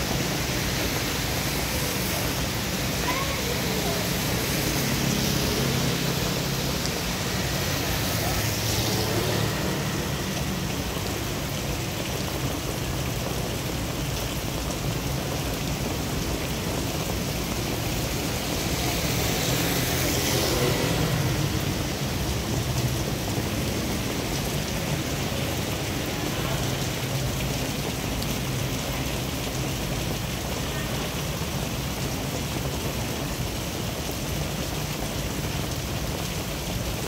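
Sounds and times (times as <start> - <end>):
rain falling on street: 0.0 - 37.0
tyres swishing on wet road: 0.0 - 37.0.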